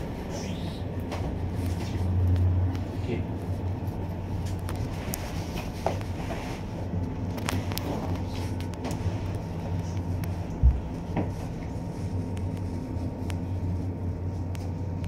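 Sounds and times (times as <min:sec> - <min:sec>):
cable car low hum: 0:00.0 - 0:15.0.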